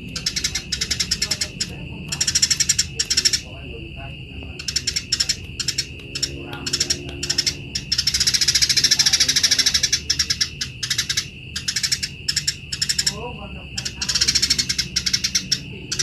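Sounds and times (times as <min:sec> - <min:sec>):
sparrows rasping chatter: 0:00.0 - 0:16.0.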